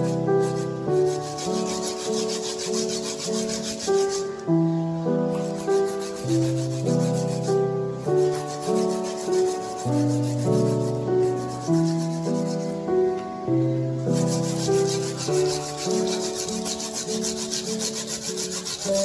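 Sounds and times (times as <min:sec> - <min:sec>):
scratchy rasping hiss: 0:00.0 - 0:19.0
slow instrumental music: 0:00.0 - 0:19.0.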